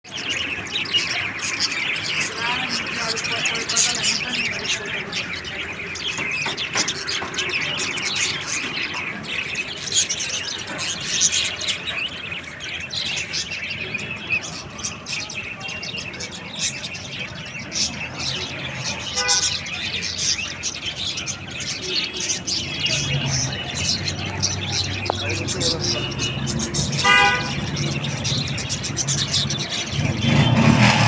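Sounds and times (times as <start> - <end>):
parrots chirping and chattering: 0.0 - 31.0.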